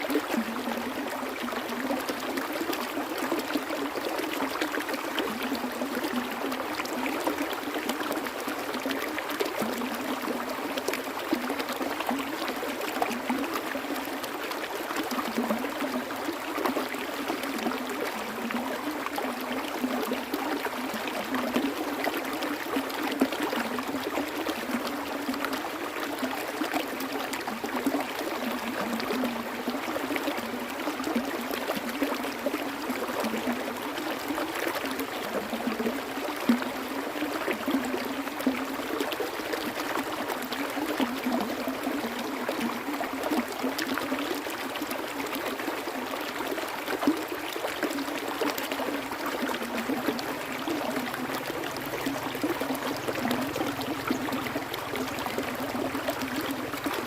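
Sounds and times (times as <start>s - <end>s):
stream water flowing: 0.0s - 57.0s
water splashes and trickles: 0.0s - 57.0s.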